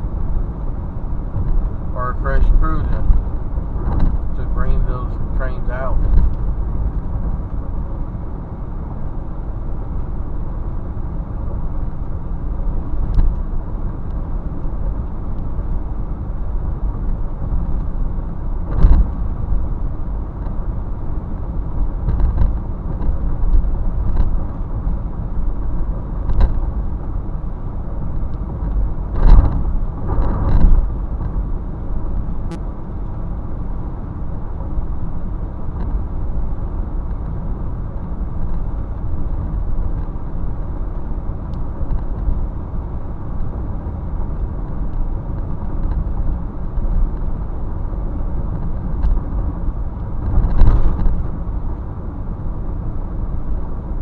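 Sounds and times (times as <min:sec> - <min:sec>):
motor vehicle low rumble: 0:00.0 - 0:54.0.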